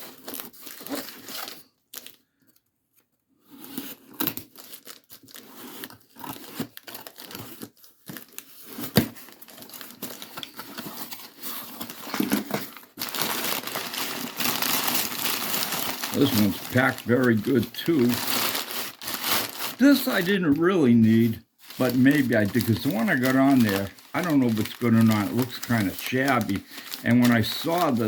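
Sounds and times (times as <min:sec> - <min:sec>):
packaging tearing and crinkling: 0:00.0 - 0:02.2, 0:03.6 - 0:28.0.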